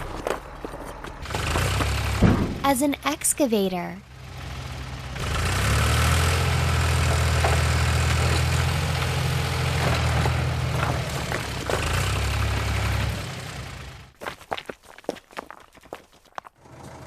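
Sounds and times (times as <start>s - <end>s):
heavy engine rumbling: 0.0s - 14.2s, 16.6s - 17.0s.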